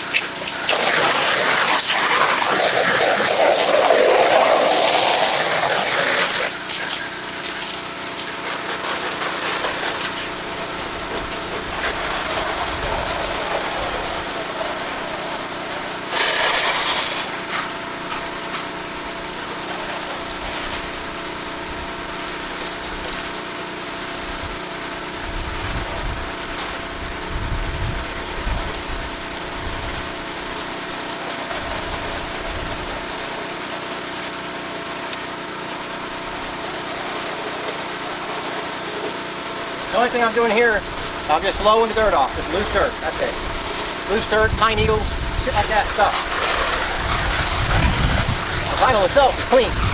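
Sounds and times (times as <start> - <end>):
water spray hissing: 0.0 - 23.0, 28.7 - 49.9
pressure washer engine running: 0.0 - 49.9.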